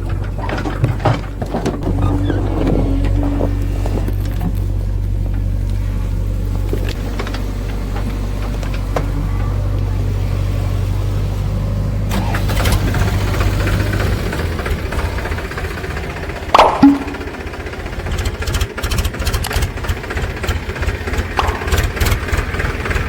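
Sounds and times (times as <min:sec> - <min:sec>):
diesel machinery engine running: 0:00.0 - 0:23.0.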